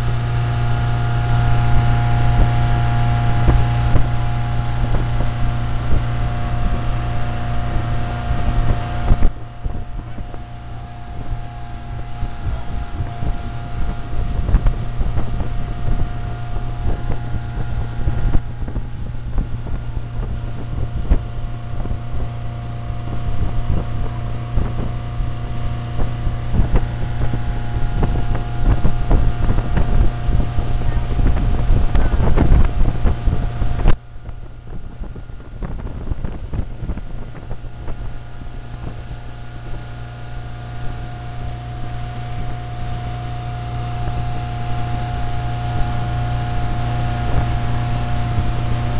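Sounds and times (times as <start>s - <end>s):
motorboat engine running: 0.0s - 48.9s
wake rushing: 0.0s - 48.9s
wind buffeting microphone: 0.0s - 48.9s.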